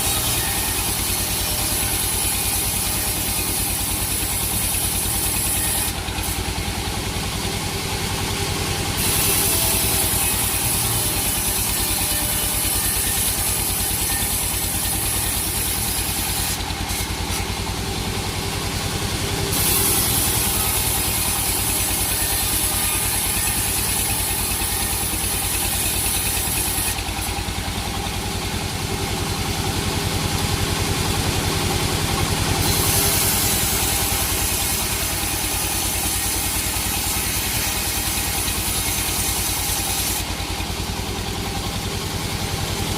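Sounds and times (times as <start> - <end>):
saw blade hissing through wood: 0.0 - 7.1, 8.8 - 28.3, 32.4 - 41.0
sawmill engine drone: 0.0 - 42.9.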